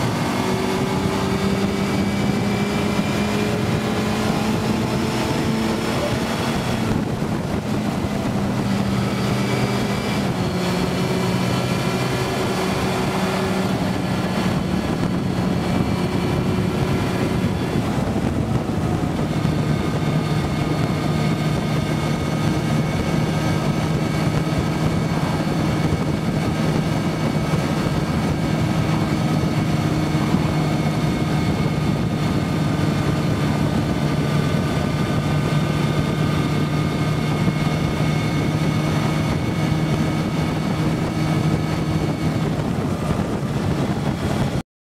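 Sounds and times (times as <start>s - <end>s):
motorcycle engine running: 0.0s - 44.6s
wind rushing: 0.0s - 44.6s.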